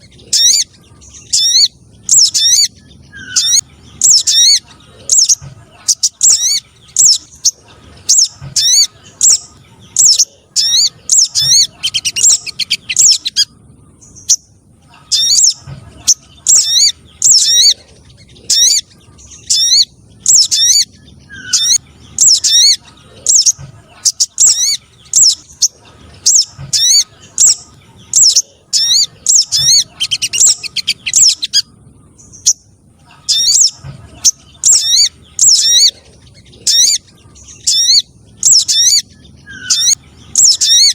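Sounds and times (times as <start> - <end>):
recorded bird chirps: 0.0 - 40.9.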